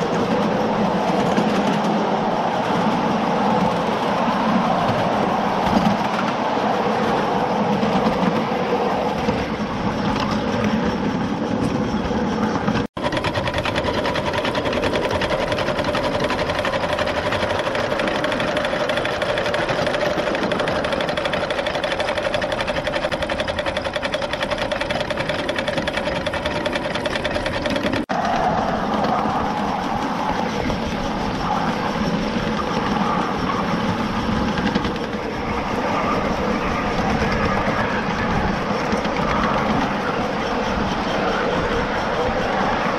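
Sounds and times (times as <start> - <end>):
steady whine: 0.0 - 42.9
train wheels clattering on rail: 0.0 - 42.9.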